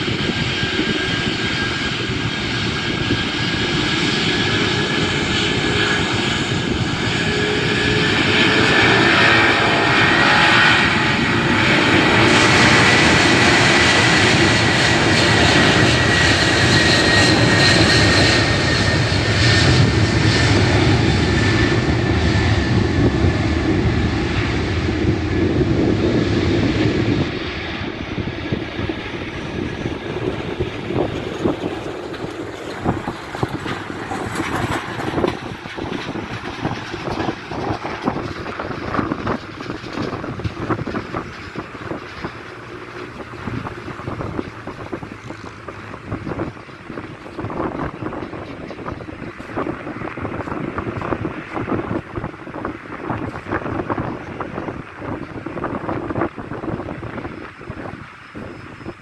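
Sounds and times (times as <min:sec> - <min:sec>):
jet engines roaring with whine: 0:00.0 - 0:59.0.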